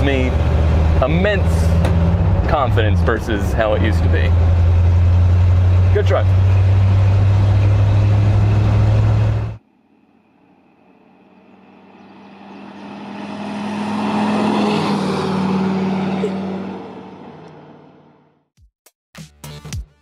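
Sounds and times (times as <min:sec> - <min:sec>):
truck driving past: 0:00.0 - 0:18.4
truck engine drone in cab: 0:00.0 - 0:18.5.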